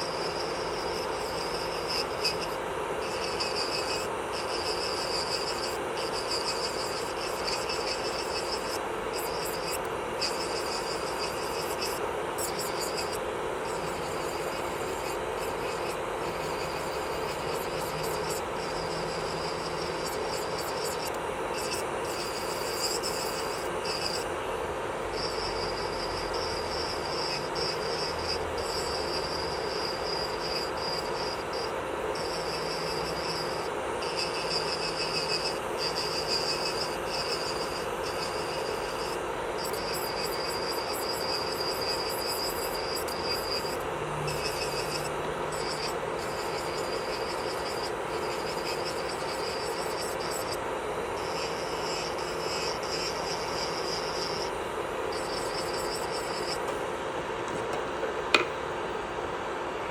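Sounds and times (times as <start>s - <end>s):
electric nail drill buzzing: 0.0s - 58.6s.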